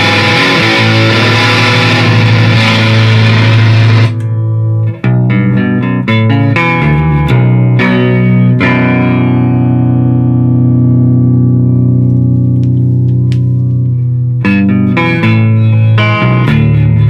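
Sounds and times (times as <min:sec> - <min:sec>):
fuzz electric guitar: 0:00.0 - 0:17.0.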